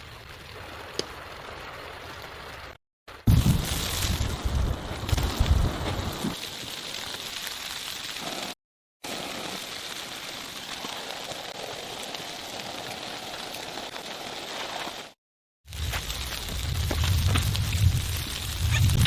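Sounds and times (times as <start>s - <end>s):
rain pattering on a surface: 0.0s - 19.0s.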